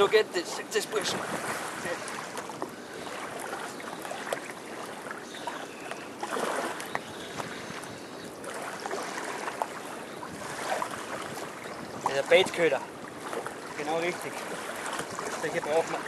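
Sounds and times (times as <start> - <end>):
river water lapping at bank: 0.0 - 16.0.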